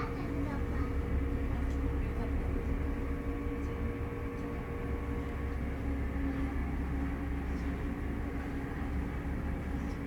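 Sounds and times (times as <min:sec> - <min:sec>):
ferry engine drone: 0:00.0 - 0:10.0.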